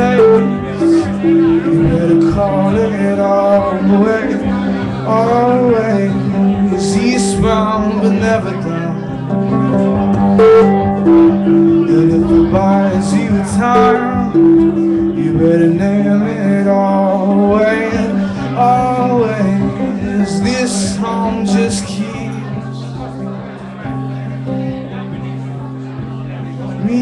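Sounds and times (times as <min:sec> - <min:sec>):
man singing: 0:00.0 - 0:25.4, 0:26.2 - 0:27.0
acoustic guitar chords: 0:00.0 - 0:27.0.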